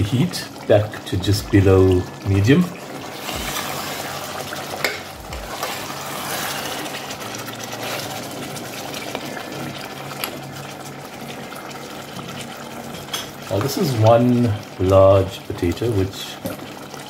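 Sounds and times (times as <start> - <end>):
thick gravy bubbling: 0.0 - 17.0
wooden spoon stirring in pot: 1.5 - 15.8.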